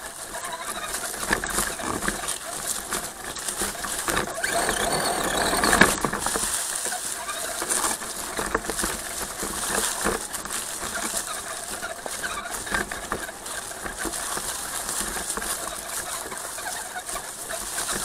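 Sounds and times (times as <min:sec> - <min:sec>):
toy crawler crunching over stones: 0:00.0 - 0:18.0.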